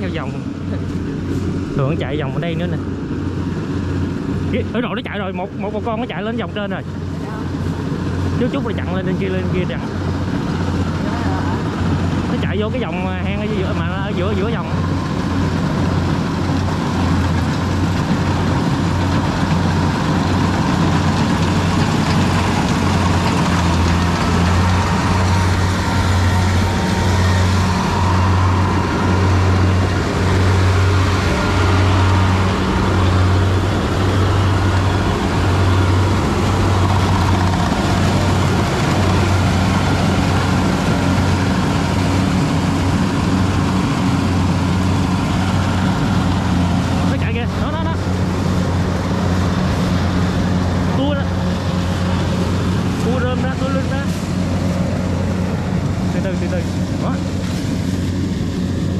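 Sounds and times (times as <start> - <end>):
combine harvester diesel engine drone: 0.0 - 58.9.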